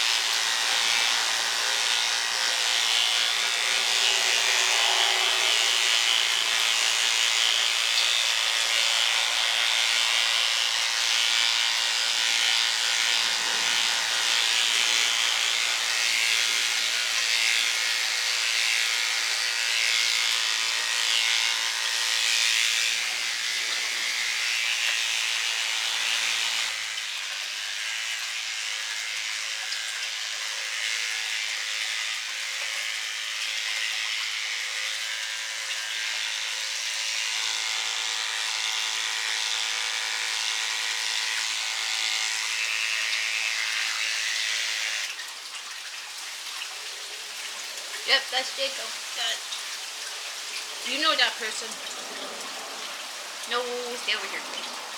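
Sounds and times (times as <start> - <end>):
electric hair clippers buzzing: 0.0 - 54.9.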